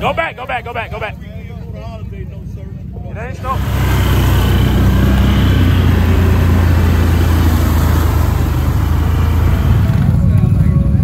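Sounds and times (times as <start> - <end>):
quad bike engines droning: 0.0 - 11.0.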